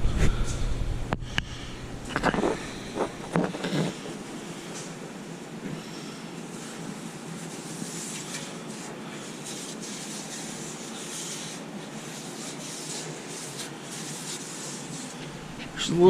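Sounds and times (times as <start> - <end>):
rubbing and rustling: 2.2 - 15.8.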